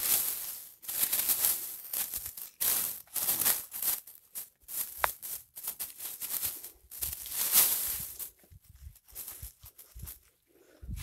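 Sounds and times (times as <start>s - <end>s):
leaves and grass rustling: 0.0s - 11.0s.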